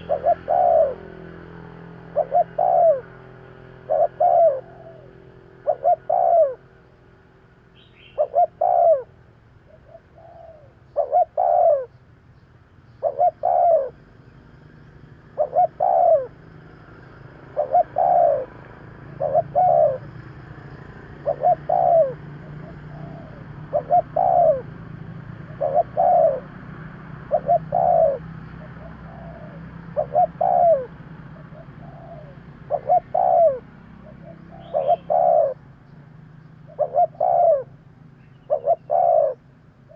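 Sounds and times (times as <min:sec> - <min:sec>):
dove cooing: 0:00.0 - 0:07.2, 0:07.8 - 0:12.0, 0:13.0 - 0:14.0, 0:15.2 - 0:35.9, 0:36.6 - 0:39.9.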